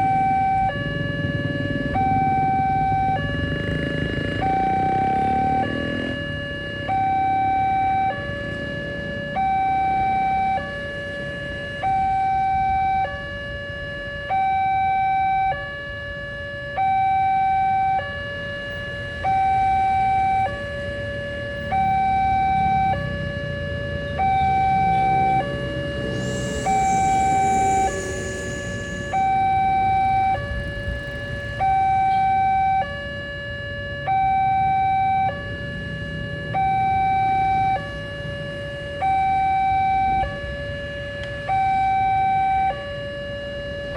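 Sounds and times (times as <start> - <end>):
low traffic noise: 0.0 - 14.1, 15.7 - 43.9
level crossing two-tone alarm: 0.0 - 43.9.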